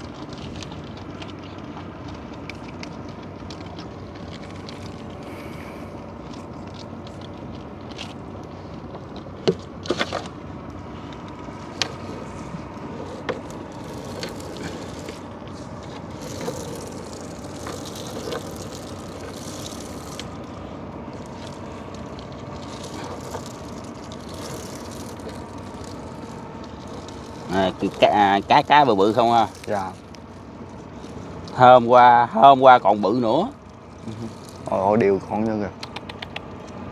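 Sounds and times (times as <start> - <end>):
boat engine running: 0.0 - 36.9.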